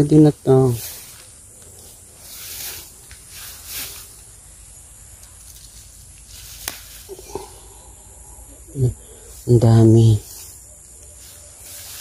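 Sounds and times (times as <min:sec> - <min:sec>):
fern fronds rustling: 0:00.0 - 0:12.0.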